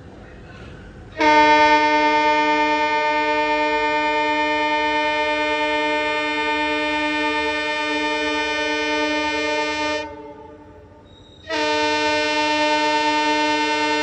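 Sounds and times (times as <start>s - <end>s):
locomotive horn long blast: 1.2s - 14.0s.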